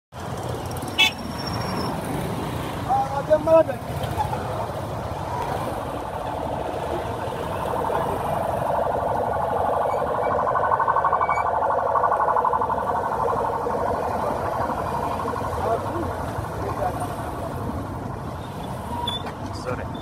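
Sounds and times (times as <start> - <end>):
street traffic: 0.1 - 20.0.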